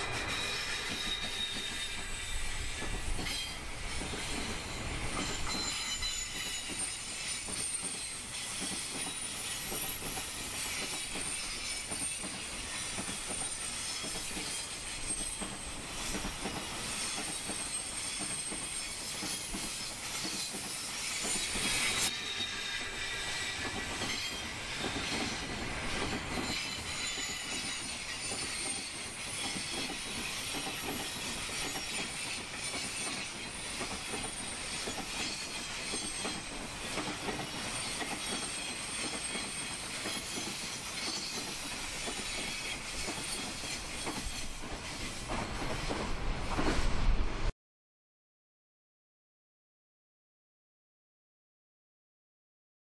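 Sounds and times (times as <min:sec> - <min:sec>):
high thin wheel squeal: 0:00.0 - 0:45.9
freight train wheels on rails: 0:00.0 - 0:47.5.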